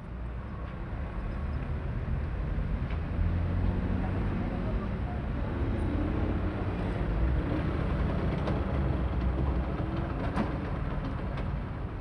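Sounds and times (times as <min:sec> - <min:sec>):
traffic engine rumble: 0:00.1 - 0:12.0.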